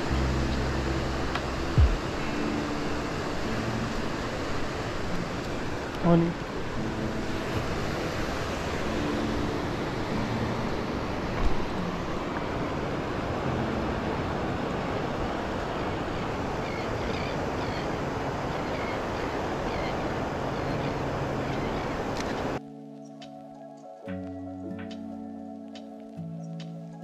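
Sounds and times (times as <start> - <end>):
surf washing on beach: 0.0 - 22.6
wind on microphone: 0.0 - 22.6.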